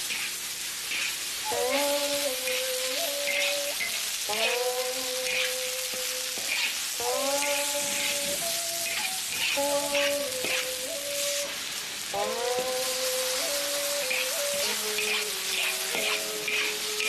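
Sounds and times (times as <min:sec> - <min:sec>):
food sizzling in stir-fry: 0:00.0 - 0:17.0
slow background music: 0:01.4 - 0:17.0.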